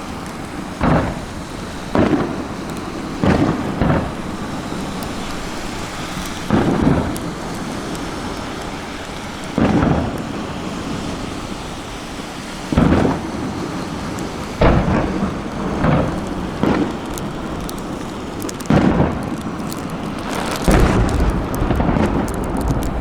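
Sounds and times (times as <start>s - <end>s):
fireworks booming: 0.0s - 11.4s, 12.7s - 23.0s
fizzing crackle of fireworks: 0.0s - 23.0s.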